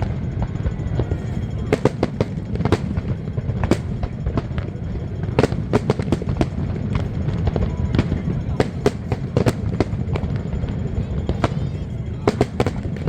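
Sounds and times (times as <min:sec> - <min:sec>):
fireworks exploding: 0:00.0 - 0:13.0
steady low rumble: 0:00.0 - 0:13.0.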